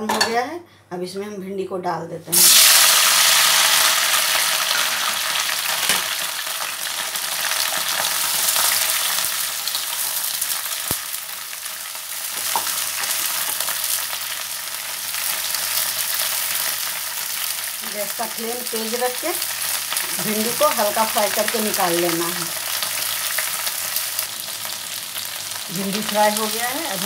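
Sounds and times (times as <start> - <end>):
okra sizzling in hot oil: 2.3 - 27.0.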